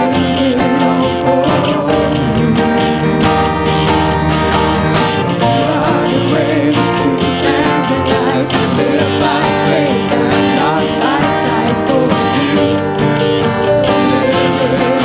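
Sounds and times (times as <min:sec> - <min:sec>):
acoustic guitar strumming: 0:00.0 - 0:15.0
worship band playing: 0:00.0 - 0:15.0.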